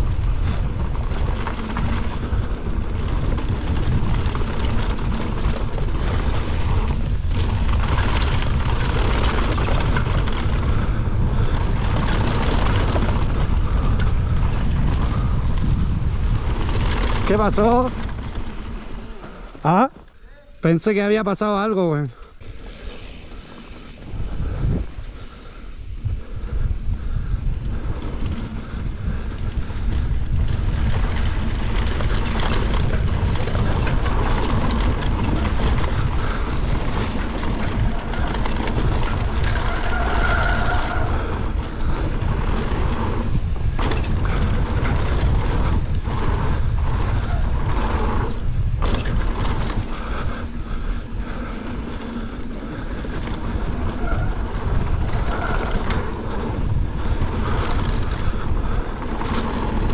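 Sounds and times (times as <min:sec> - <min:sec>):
bike rattling and knocking: 0:00.0 - 0:59.9
bike tyres rumbling on dirt: 0:00.0 - 0:59.9
wind rushing over microphone: 0:00.0 - 0:59.9.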